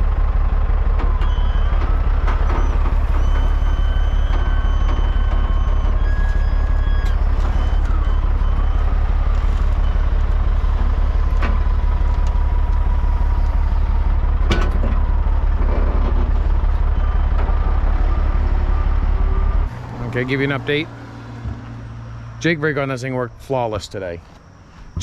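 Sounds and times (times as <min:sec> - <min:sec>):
diesel truck engine running: 0:00.0 - 0:25.0.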